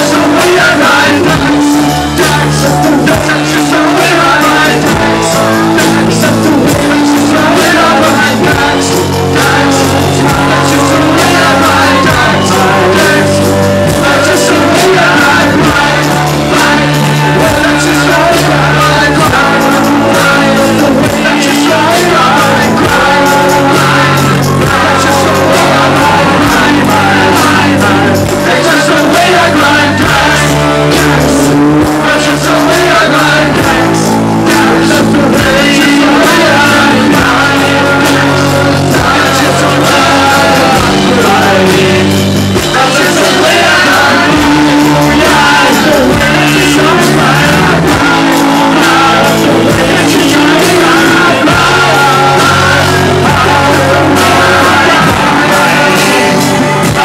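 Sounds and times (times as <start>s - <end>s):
bass guitar: 0.0s - 57.0s
drums: 0.0s - 57.0s
electric guitar: 0.0s - 57.0s
person singing lead vocals: 0.0s - 57.0s.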